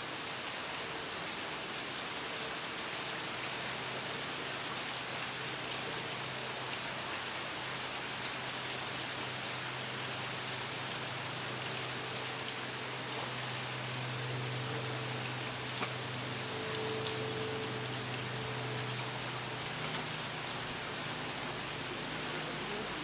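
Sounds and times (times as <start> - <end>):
waterfall hiss: 0.0 - 23.0.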